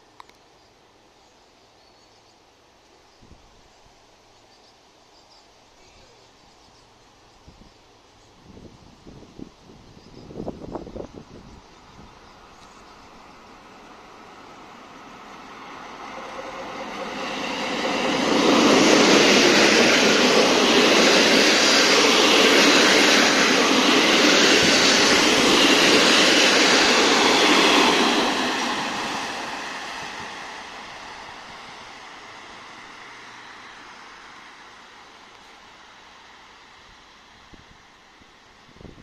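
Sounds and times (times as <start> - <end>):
passenger train passing: 0.0 - 39.0.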